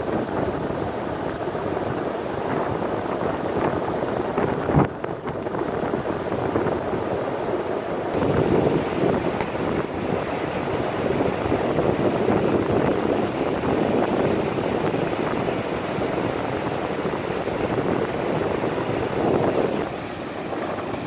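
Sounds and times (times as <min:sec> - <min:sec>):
surf breaking on beach: 0:00.0 - 0:21.0
wind on microphone: 0:00.0 - 0:21.0.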